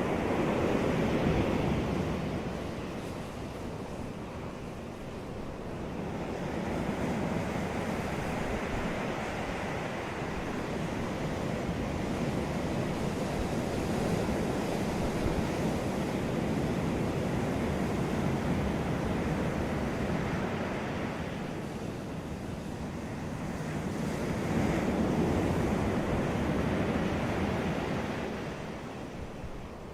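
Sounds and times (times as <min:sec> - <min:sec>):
sea waves breaking on beach: 0:00.0 - 0:29.9.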